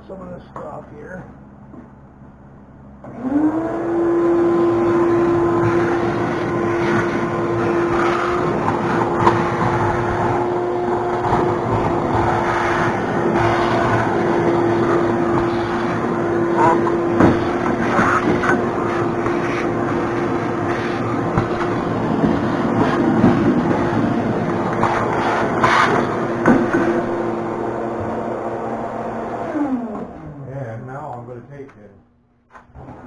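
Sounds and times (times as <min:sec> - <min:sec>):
vacuum cleaner running: 0:03.0 - 0:31.1.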